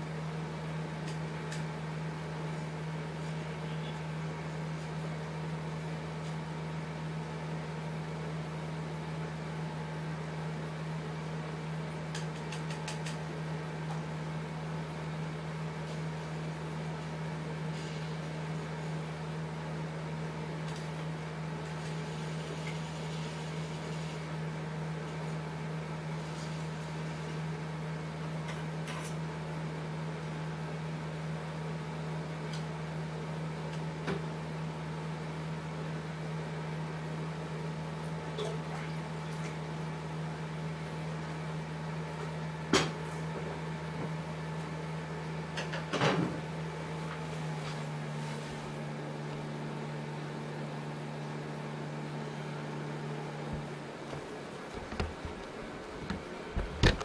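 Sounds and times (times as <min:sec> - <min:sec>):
aquarium pump humming: 0:00.0 - 0:57.0.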